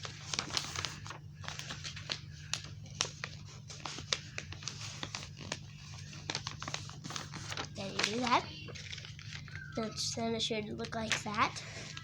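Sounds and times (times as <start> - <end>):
paper crinkling and rustling: 0.0 - 12.0
steady low hum: 0.0 - 12.0.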